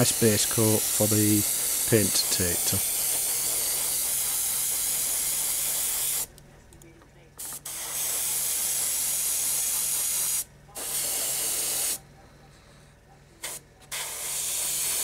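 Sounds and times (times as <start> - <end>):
airbrush spraying hiss: 0.0 - 6.3, 7.4 - 12.0, 13.4 - 15.0.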